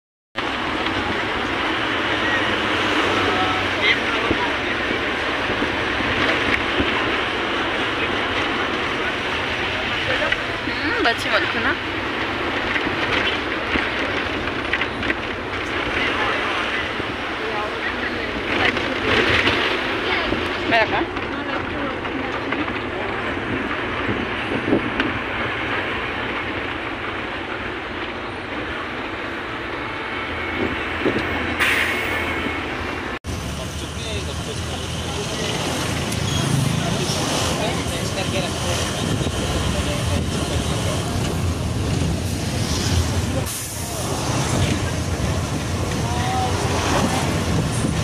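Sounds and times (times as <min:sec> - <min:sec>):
bus engine and tyre noise: 0:00.4 - 0:48.0
road and wind noise: 0:00.4 - 0:48.0.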